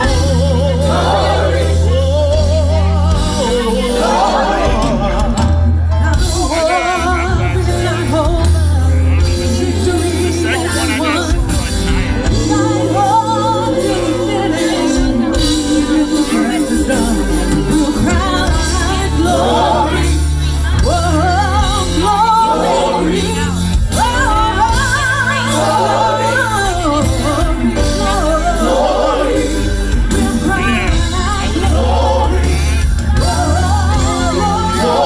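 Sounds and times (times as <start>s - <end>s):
gospel singers with vibrato: 0.0s - 35.0s
live band with held bass: 0.0s - 35.0s.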